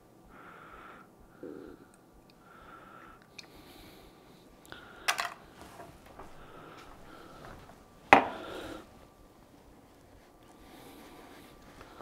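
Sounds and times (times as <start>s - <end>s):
soft nose breathing: 0.2s - 12.0s.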